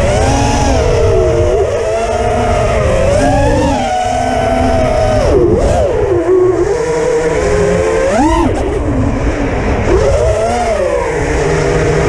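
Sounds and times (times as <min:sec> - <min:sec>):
low rumble of wind: 0:00.0 - 0:12.0
quadcopter motors whining: 0:00.0 - 0:12.0.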